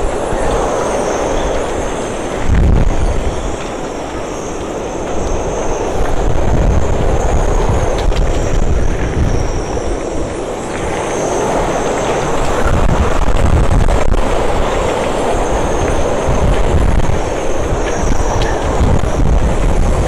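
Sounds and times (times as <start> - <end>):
driving rain: 0.0 - 20.0
rushing wind: 0.0 - 20.0
wind buffeting microphone: 0.0 - 20.0.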